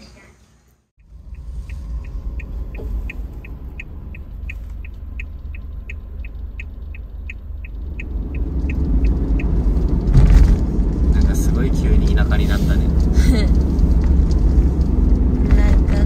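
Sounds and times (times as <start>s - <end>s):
low rumble: 1.0s - 16.0s.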